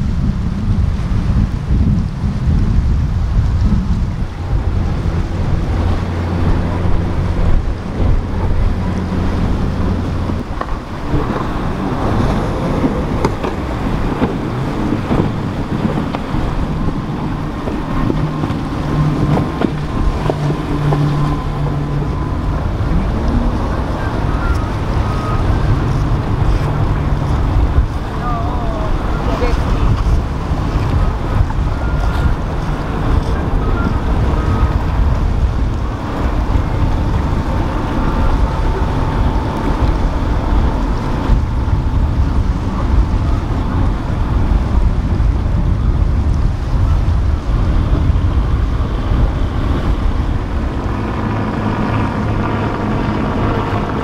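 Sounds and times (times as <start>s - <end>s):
boat engines droning: 0.0s - 54.0s
waves washing: 0.0s - 54.0s
wind buffeting microphone: 0.0s - 54.0s.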